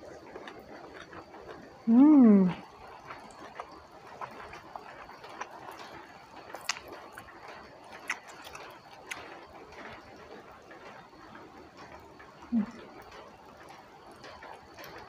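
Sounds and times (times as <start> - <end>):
person chewing wetly: 0.0 - 15.0.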